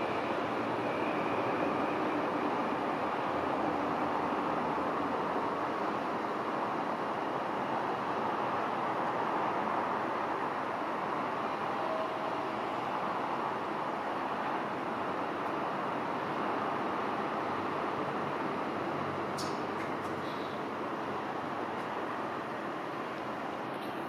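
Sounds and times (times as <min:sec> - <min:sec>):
distant road traffic hum: 0:00.0 - 0:24.0.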